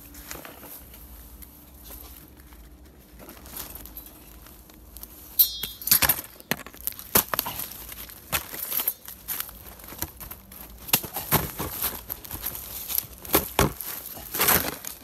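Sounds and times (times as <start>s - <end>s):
dry leaves crackling and rustling: 0.0s - 15.0s.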